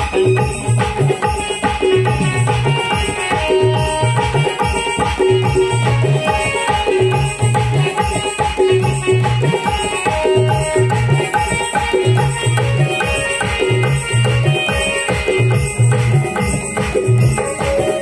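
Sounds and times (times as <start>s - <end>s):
dholak hand drum rhythm: 0.0s - 18.0s
electronic keyboard melody: 0.0s - 18.0s.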